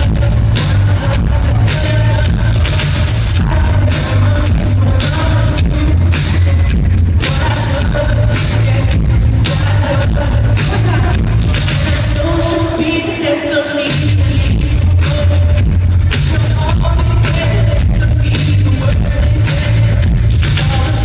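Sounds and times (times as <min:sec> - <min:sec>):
band with heavy bass: 0:00.0 - 0:21.0
man singing into a microphone: 0:00.0 - 0:21.0.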